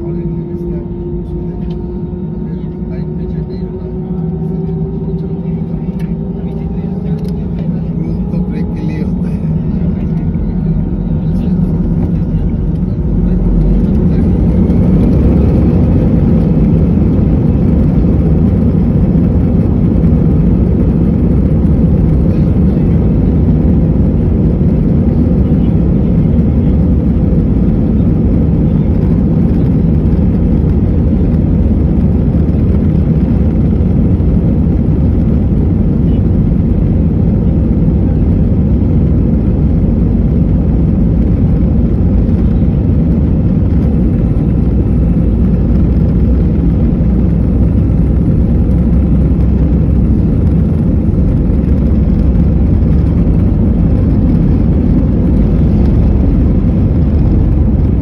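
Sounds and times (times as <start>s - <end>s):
jet engines and runway noise: 0.0s - 58.0s.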